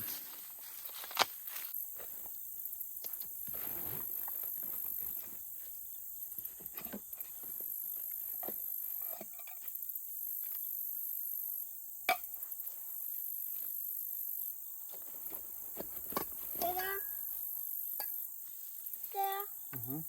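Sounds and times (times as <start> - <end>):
insects calling: 0.0 - 20.0.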